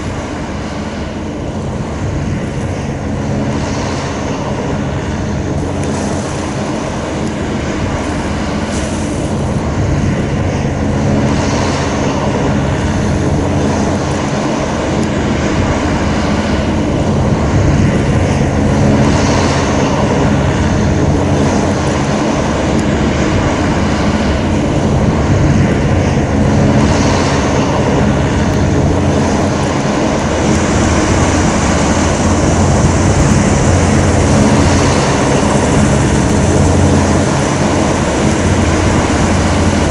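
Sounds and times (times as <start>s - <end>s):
hovercraft engines droning: 0.0s - 39.9s.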